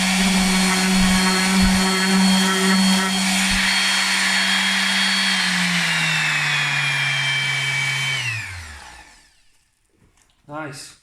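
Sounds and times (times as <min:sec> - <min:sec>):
orbit sander running: 0:00.0 - 0:09.4.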